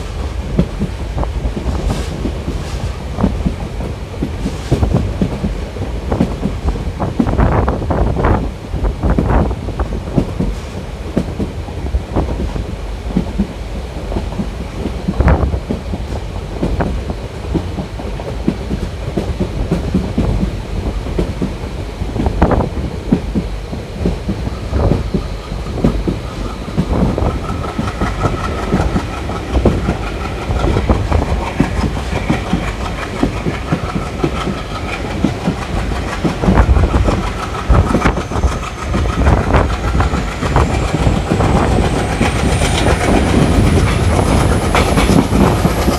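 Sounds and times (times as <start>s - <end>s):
train wheels knocking over rail joints: 0.0s - 45.9s.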